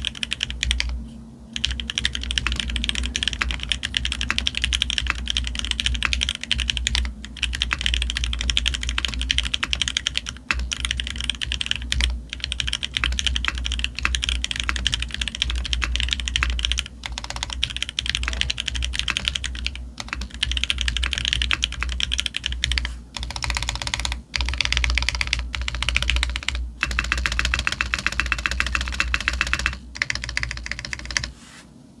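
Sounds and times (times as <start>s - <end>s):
fast mechanical keyboard typing: 0.0s - 1.0s, 1.6s - 31.3s.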